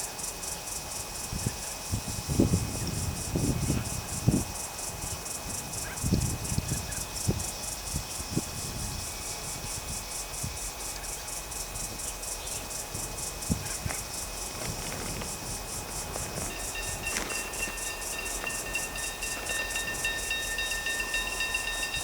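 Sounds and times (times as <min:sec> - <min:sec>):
insect chirping: 0:00.4 - 0:22.0
wind rumble on microphone: 0:00.8 - 0:10.8, 0:11.7 - 0:22.0.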